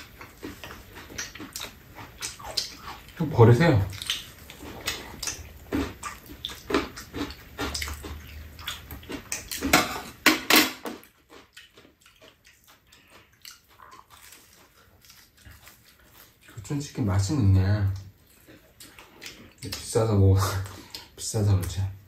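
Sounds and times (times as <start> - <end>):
chewing: 0.0 - 10.2, 11.0 - 21.8.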